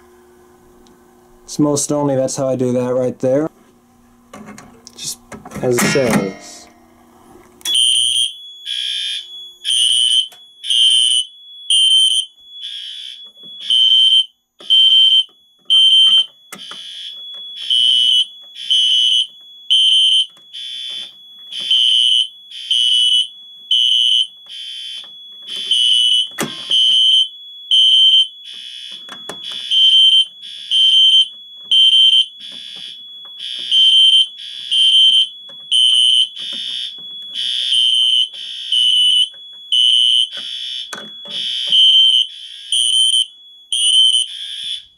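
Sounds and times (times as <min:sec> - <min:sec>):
continuous high alarm tone: 0:05.6 - 0:06.9, 0:07.6 - 0:44.9
fire alarm horns pulsing: 0:07.6 - 0:44.9.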